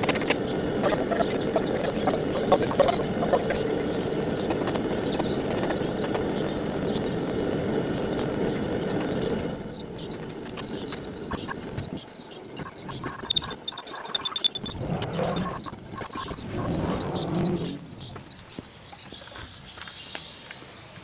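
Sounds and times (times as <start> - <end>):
forge burners roaring: 0.0 - 18.4
crackling: 0.0 - 20.6.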